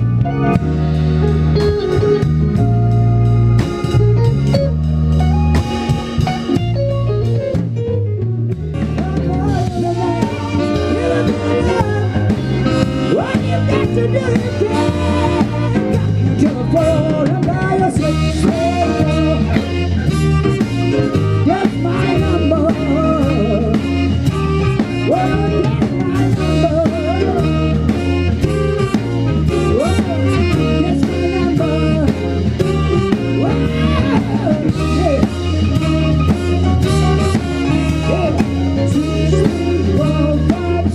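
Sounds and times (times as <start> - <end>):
blues-rock band playing: 0.0 - 40.9
electric guitar lead bending: 0.0 - 40.9.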